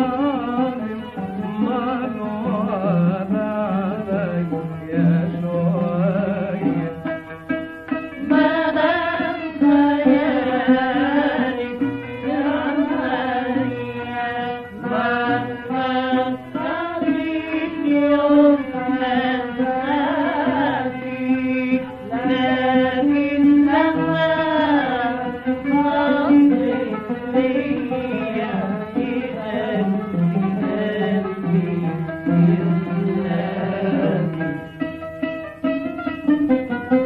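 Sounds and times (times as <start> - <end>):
ornamented melody: 0.0 - 37.0.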